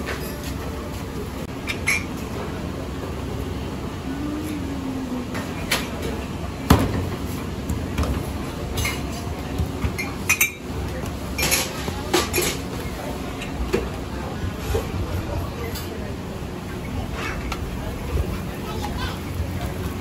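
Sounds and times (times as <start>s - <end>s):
kitchen background noise: 0.0s - 20.0s.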